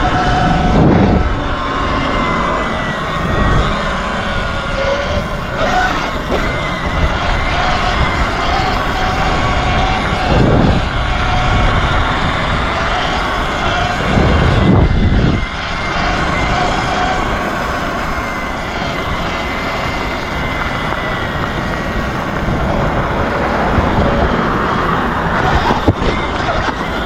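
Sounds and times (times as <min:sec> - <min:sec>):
wind and road rush: 0:00.0 - 0:27.0.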